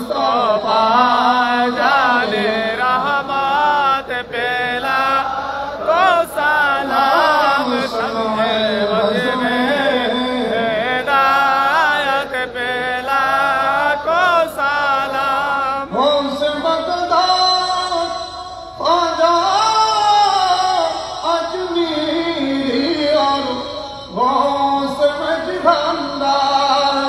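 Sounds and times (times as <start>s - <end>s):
men chanting through microphones: 0.0s - 27.0s.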